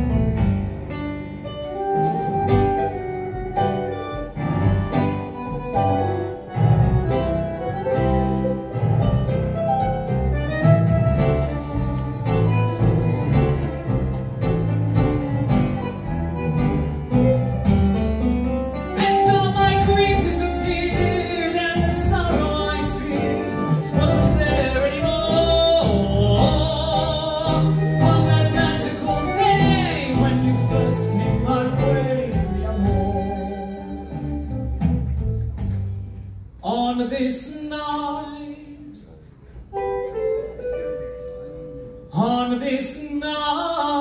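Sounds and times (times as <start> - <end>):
orchestral music led by strings: 0.0 - 36.6.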